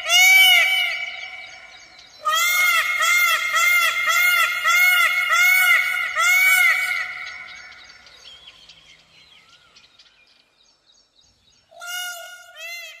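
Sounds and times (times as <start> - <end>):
peacock calling: 0.0 - 9.8, 11.6 - 13.0
small birds chirping: 0.0 - 13.0.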